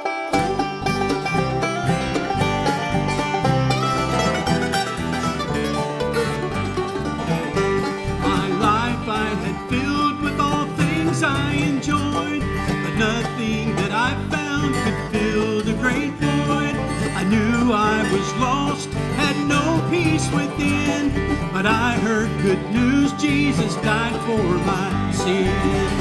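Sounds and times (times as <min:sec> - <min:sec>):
country band playing: 0:00.0 - 0:26.0
plucked strings: 0:00.0 - 0:26.0
sliding guitar notes: 0:00.0 - 0:26.0.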